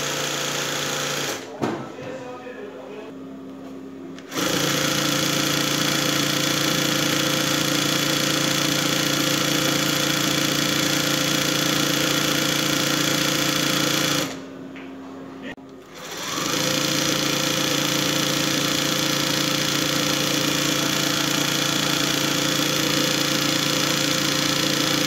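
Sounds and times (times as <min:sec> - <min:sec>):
sewing machine running: 0:00.0 - 0:01.5, 0:04.3 - 0:14.4, 0:15.8 - 0:25.0.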